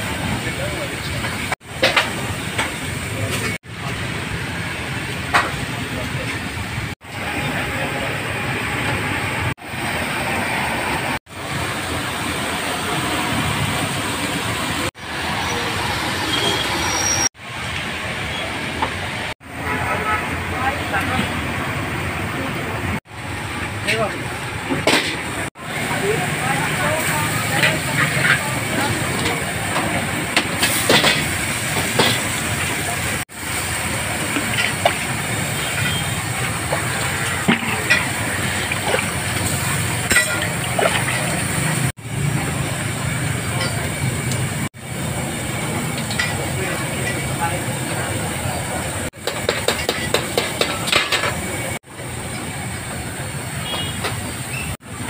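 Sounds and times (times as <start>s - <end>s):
noisy background ambience: 0.0s - 55.0s
street traffic rumble: 0.0s - 55.0s.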